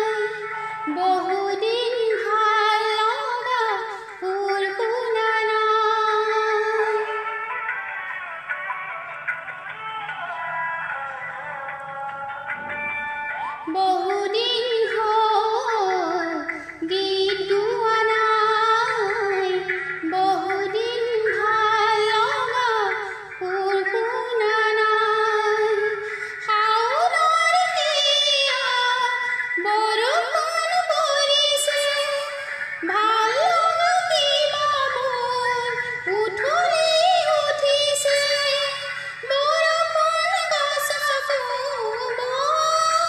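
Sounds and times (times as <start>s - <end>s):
woman singing: 0.0s - 7.8s, 13.3s - 43.0s
backing music track: 0.0s - 43.0s.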